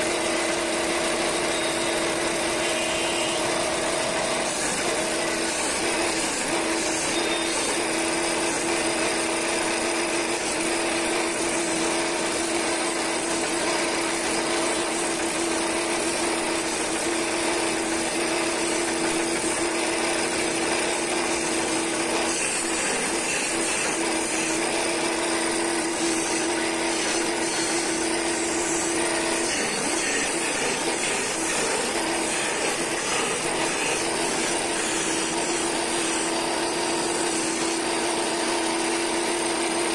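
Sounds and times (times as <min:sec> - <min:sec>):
wood lathe humming: 0:00.0 - 0:39.9
chisel cutting hiss: 0:01.4 - 0:39.2.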